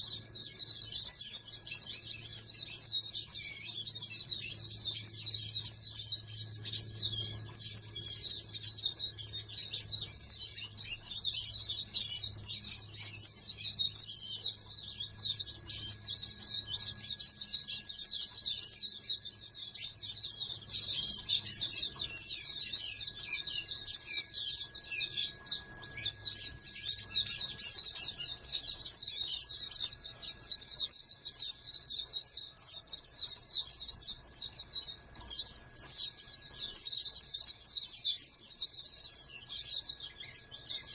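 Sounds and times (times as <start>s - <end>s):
high-pitched bird twittering: 0.0s - 40.9s.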